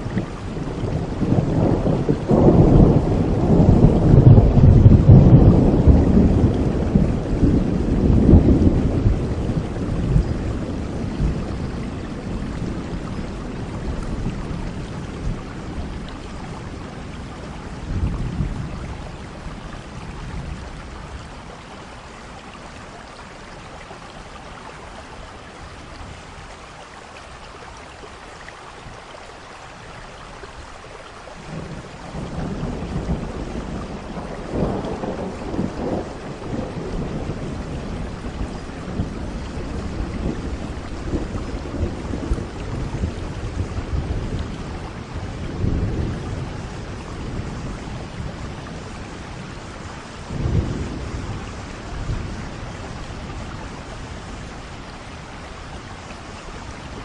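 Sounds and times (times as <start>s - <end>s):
thunder rumbling: 0.0s - 21.6s, 31.4s - 57.0s
steady rain: 0.0s - 57.0s.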